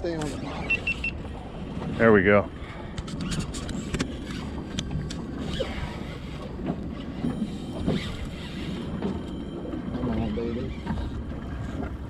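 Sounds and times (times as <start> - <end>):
water moving around boat: 0.0 - 12.0.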